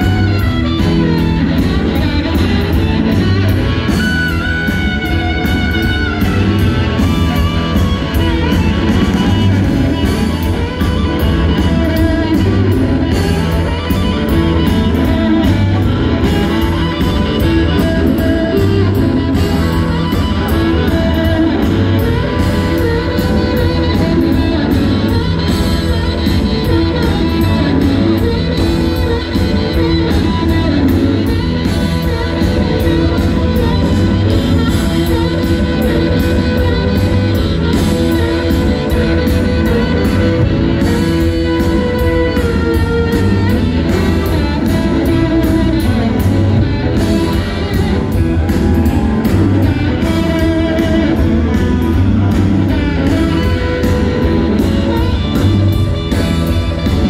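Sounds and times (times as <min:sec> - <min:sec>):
electric blues band playing: 0:00.0 - 0:57.0
harmonica: 0:00.0 - 0:57.0.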